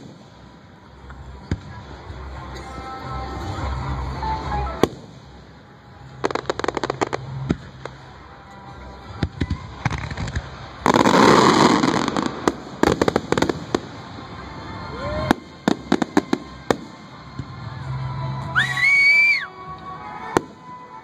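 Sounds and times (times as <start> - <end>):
fireworks bangs and crackles: 0.0 - 2.6, 3.3 - 18.1, 20.2 - 21.0.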